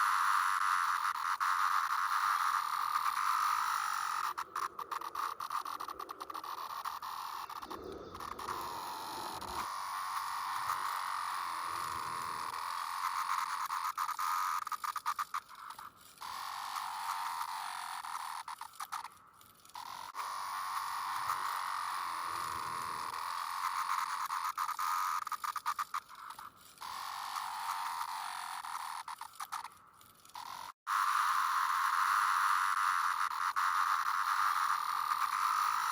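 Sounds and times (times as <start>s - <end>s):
cicadas droning buzz: 0.0s - 29.7s, 30.3s - 35.9s.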